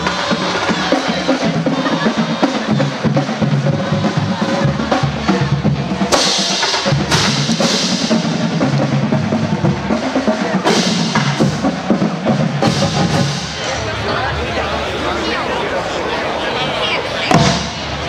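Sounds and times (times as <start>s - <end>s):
drumline playing snare and bass: 0.0s - 14.6s, 17.2s - 18.0s.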